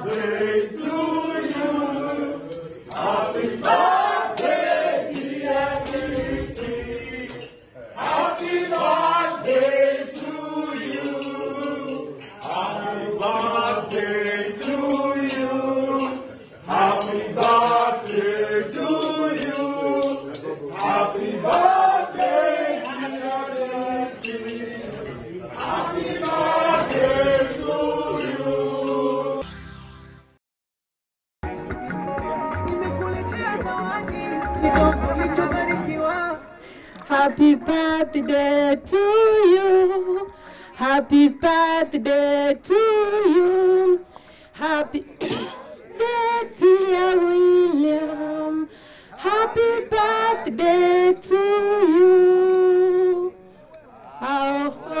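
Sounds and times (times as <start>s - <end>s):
group singing chant-like song: 0.0s - 29.4s, 33.1s - 55.0s.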